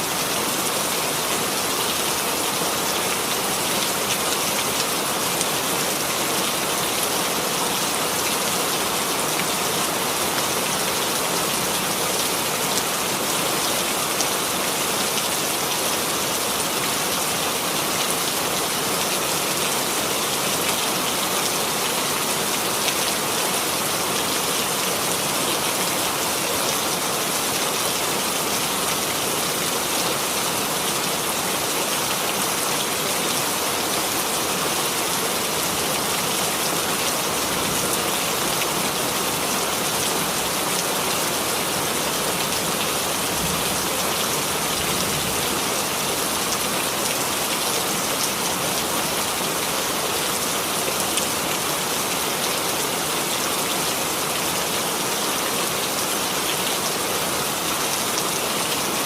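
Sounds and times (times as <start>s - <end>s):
rain pattering on a surface: 0.1s - 59.0s.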